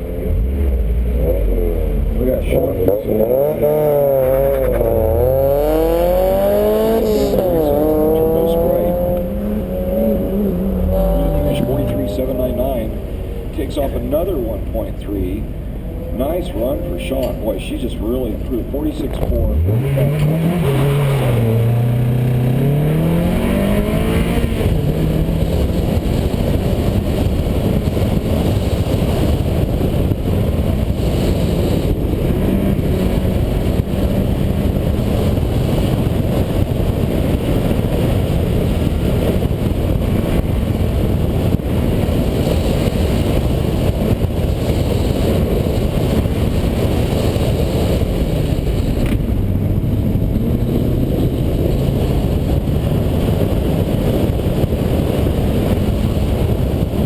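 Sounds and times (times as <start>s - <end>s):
car engine revving hard: 0.0s - 14.6s, 19.1s - 57.0s
road and wind noise: 0.0s - 57.0s.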